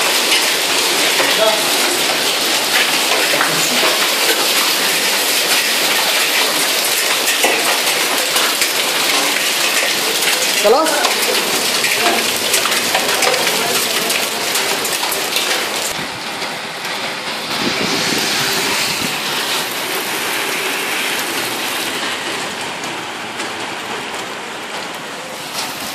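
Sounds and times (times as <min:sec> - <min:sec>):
hailstones ticking: 0:00.0 - 0:25.9
heavy rain hissing: 0:00.0 - 0:25.9.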